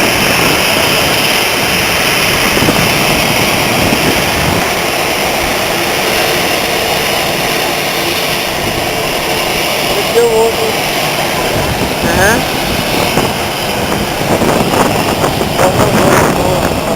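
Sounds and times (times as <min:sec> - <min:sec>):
jet engines running: 0:00.0 - 0:16.9.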